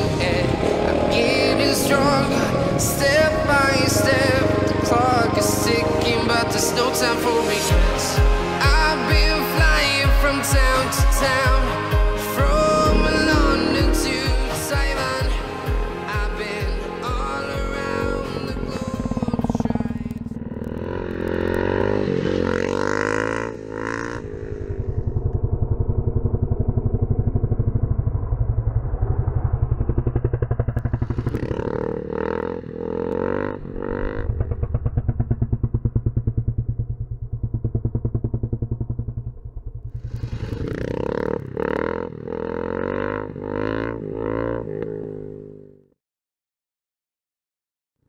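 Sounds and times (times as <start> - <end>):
motorcycle engine revving hard: 0.0 - 15.7, 16.3 - 45.9.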